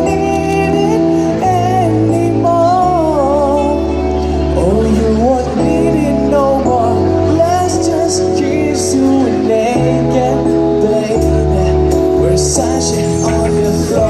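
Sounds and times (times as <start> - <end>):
bass line: 0.0 - 14.0
held chords: 0.0 - 14.0
person singing: 0.0 - 14.0.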